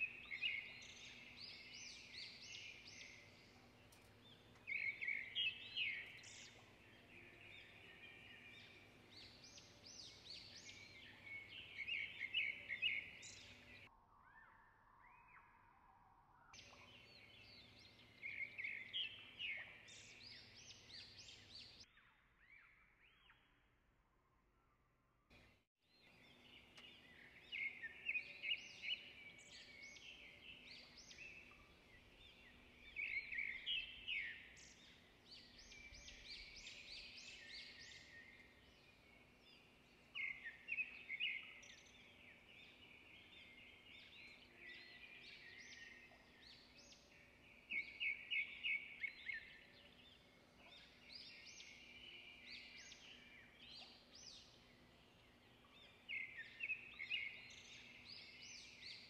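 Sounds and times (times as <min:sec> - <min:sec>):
bird chirping: 0:00.0 - 0:23.6, 0:25.3 - 0:59.0
quiet bird twittering: 0:00.0 - 0:23.6, 0:25.4 - 0:59.0.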